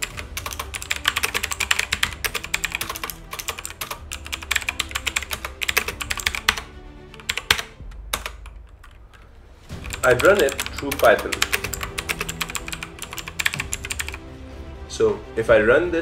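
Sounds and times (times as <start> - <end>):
keyboard typing: 0.0 - 14.2.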